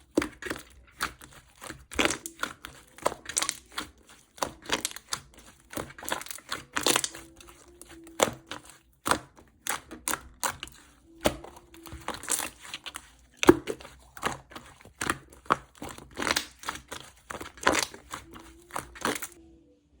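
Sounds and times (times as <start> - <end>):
slime squished by hand: 0.0 - 19.4.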